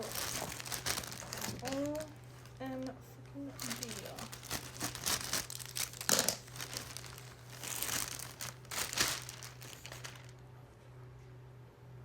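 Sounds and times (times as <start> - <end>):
packaging crinkling: 0.0 - 10.4.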